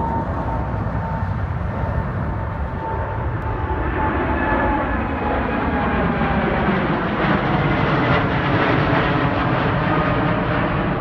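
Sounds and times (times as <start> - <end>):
faint falling jet whine: 0.0 - 11.0
jet engines rumbling overhead: 0.0 - 11.0.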